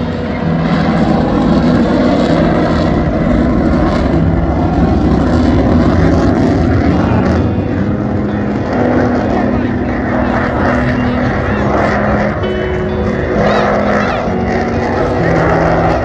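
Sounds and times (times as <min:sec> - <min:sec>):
fighter jet flying low: 0:00.0 - 0:16.0.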